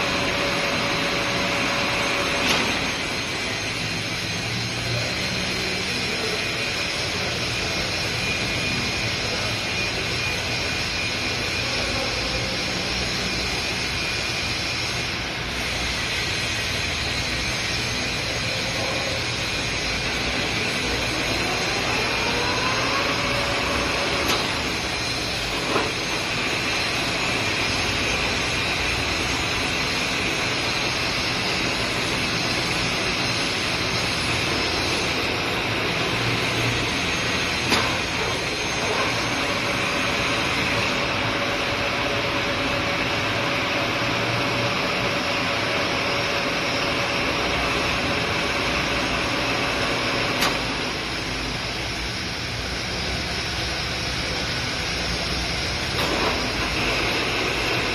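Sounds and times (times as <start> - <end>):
metal lathe spindle whining: 0.0 - 57.9.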